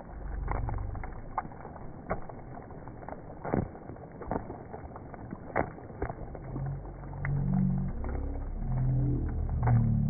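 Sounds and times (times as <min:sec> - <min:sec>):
rain falling on river: 0:00.0 - 0:10.0.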